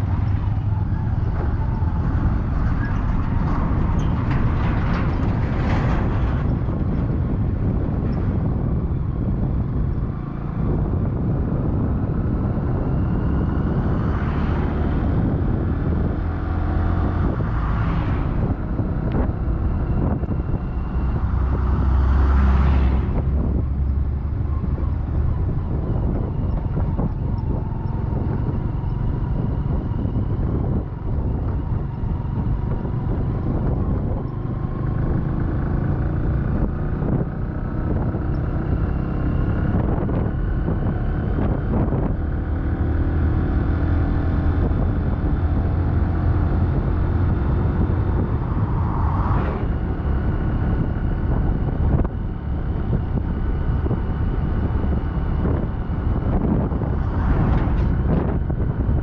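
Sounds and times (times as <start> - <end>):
low vehicle rumble: 0.0 - 59.0
vehicles passing by: 0.0 - 59.0.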